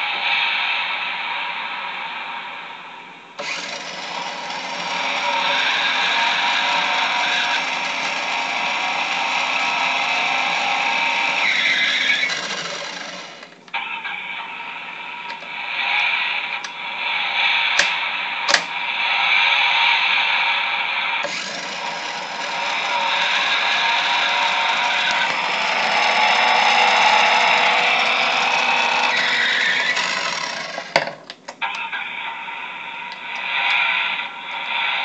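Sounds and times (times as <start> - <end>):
toy car electronic engine sounds: 3.4 - 20.4, 21.0 - 35.0.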